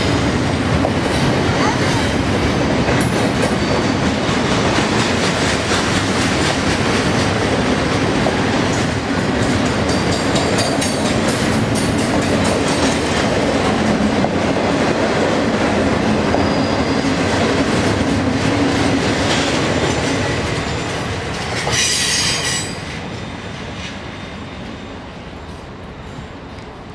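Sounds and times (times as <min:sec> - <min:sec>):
train wheels rumbling and clattering: 0:00.0 - 0:26.9.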